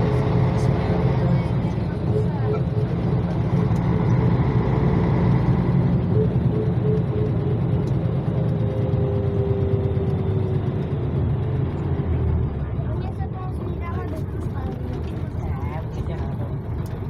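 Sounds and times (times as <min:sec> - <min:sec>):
diesel engine and road rumble: 0:00.0 - 0:17.0.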